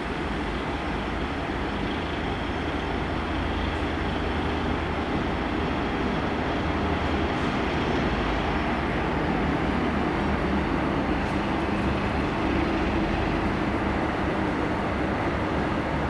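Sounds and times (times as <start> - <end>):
diesel locomotive engines droning: 0.0 - 16.0.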